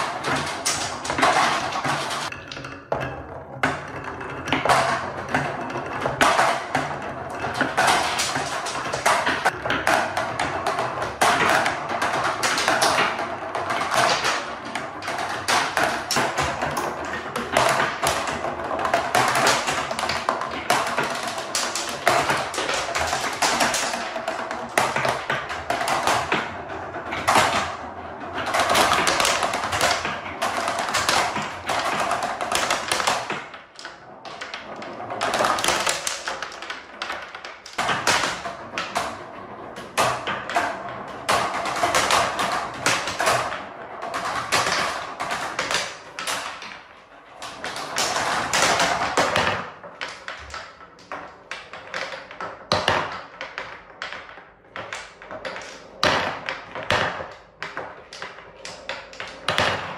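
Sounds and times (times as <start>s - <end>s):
balls rolling on wooden track: 0.0s - 59.9s.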